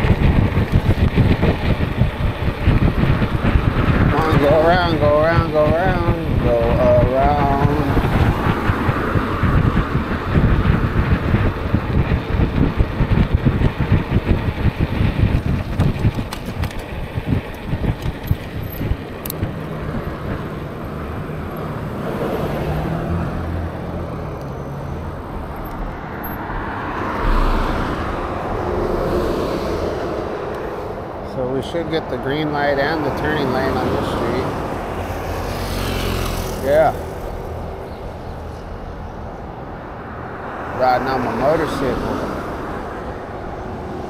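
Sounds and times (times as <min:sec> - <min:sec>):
car traffic passing: 0:00.0 - 0:44.0
wind buffeting microphone: 0:00.0 - 0:44.0.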